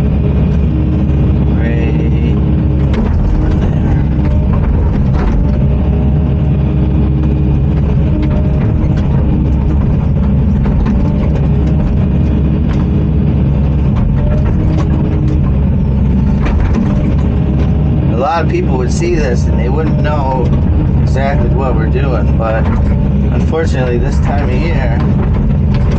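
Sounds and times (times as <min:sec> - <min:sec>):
heavy diesel machine running: 0:00.0 - 0:25.9
knocks and clanks: 0:02.2 - 0:18.3, 0:19.1 - 0:25.9.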